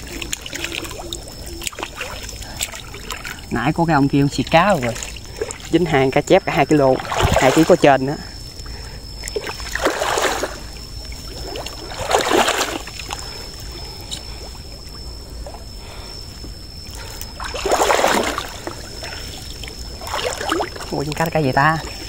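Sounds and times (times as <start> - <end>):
shallow water splashing: 0.0 - 22.0.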